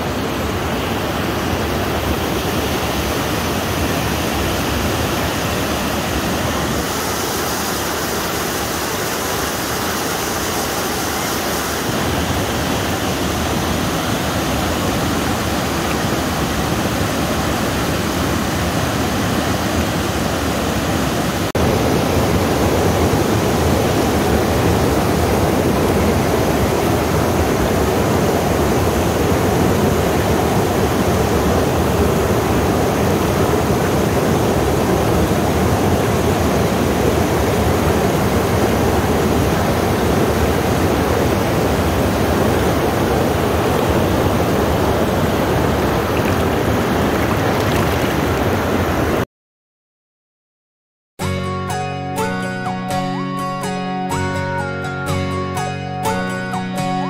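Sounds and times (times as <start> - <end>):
river water rushing over rocks: 0.0 - 49.2.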